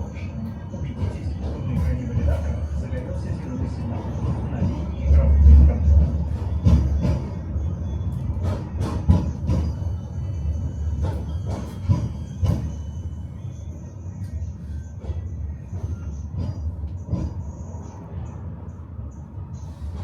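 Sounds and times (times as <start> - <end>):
tram rumbling on rails: 0.0 - 20.0.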